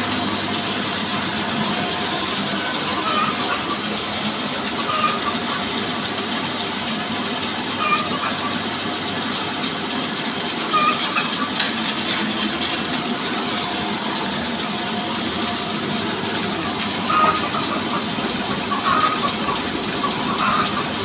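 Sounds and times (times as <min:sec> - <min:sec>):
sawmill petrol engine running: 0:00.0 - 0:21.0.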